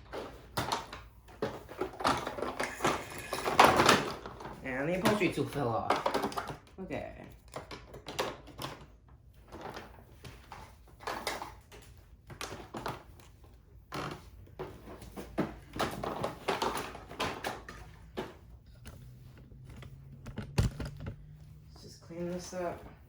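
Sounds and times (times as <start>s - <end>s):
plastic tools handling noises: 0.0s - 22.9s.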